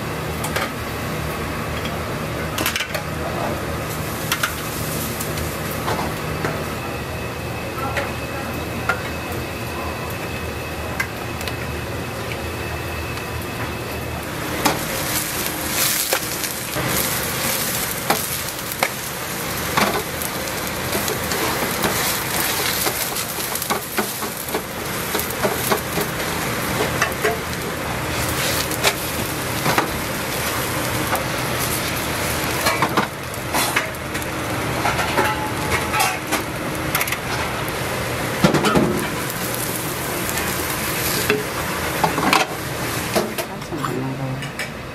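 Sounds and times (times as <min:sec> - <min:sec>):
steady hum: 0:00.0 - 0:44.9
pancake sizzling in oil: 0:03.6 - 0:06.9, 0:10.0 - 0:43.3.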